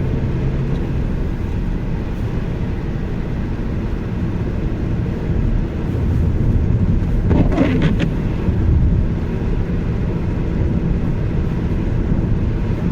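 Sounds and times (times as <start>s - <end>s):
car engine accelerating: 0.0s - 12.9s.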